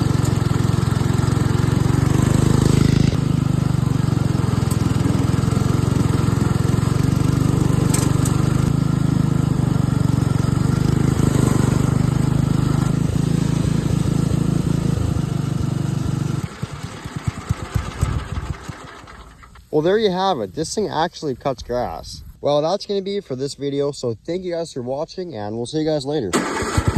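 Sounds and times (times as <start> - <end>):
riding lawn mower engine: 0.0 - 22.0, 26.3 - 26.9.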